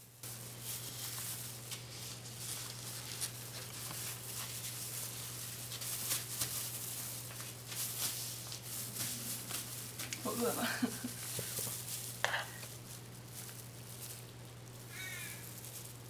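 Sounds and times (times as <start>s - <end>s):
leaves rustling and crackling: 0.0s - 16.0s
steady low hum: 0.0s - 16.0s.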